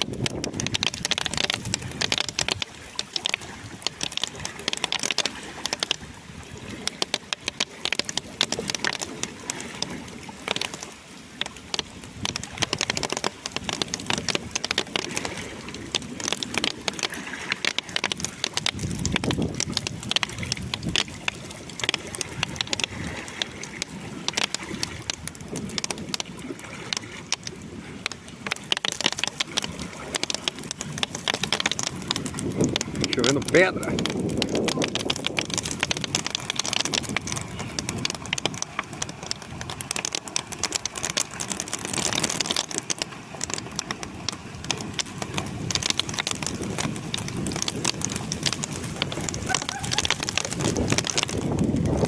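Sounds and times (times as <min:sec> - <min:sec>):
rain rushing: 0:00.0 - 0:52.0
raindrops striking hard surface: 0:00.0 - 0:52.0.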